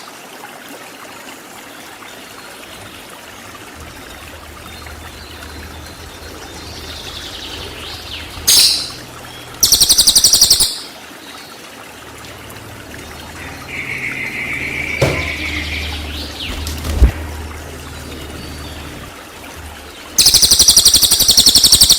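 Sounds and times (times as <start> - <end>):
songbird calls and rattling notes: 1.6 - 21.9.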